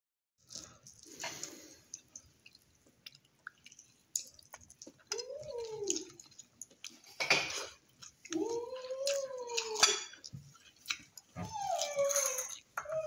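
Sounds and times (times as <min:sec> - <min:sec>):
wet chewing and lip-smacking: 0:00.4 - 0:13.0.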